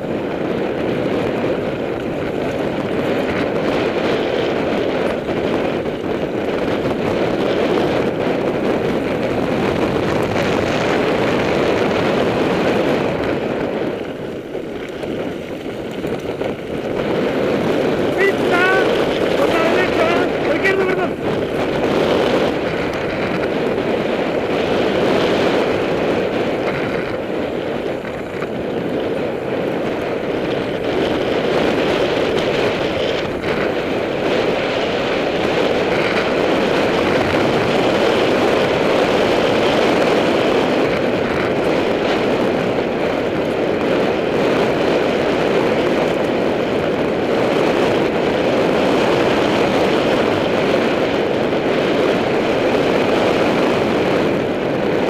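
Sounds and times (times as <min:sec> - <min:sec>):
tyres rumbling on gravel: 0:00.0 - 0:55.0
wind rushing over microphone: 0:00.0 - 0:55.0.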